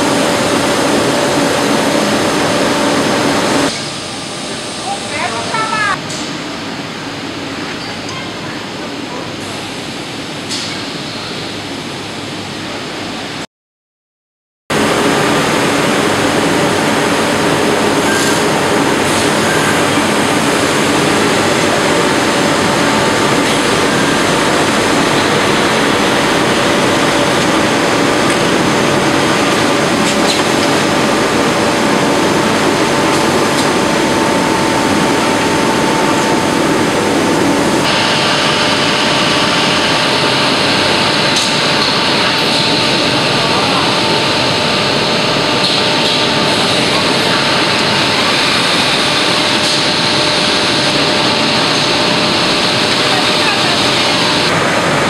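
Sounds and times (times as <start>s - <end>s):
production line machinery running: 0.0s - 13.4s, 14.7s - 55.0s.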